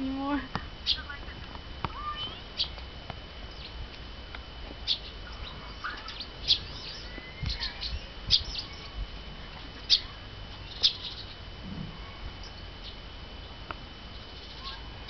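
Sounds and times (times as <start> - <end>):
small birds chirping: 0.0 - 4.0, 4.7 - 15.0.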